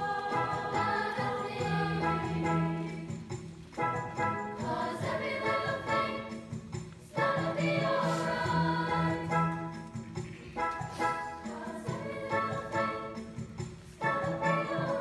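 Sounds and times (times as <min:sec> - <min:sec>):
children's choir singing: 0:00.0 - 0:03.4, 0:04.2 - 0:10.0, 0:10.6 - 0:15.0
piano accompaniment: 0:00.0 - 0:15.0.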